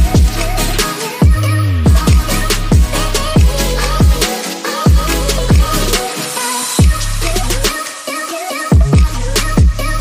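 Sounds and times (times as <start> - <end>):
electronic instrumental music: 0.0 - 10.0.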